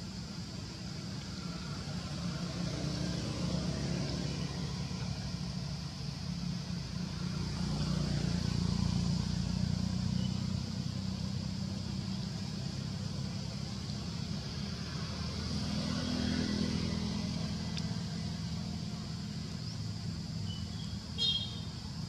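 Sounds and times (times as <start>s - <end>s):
low rumbling background noise: 0.0s - 22.0s
steady high-pitched hiss: 0.0s - 22.0s.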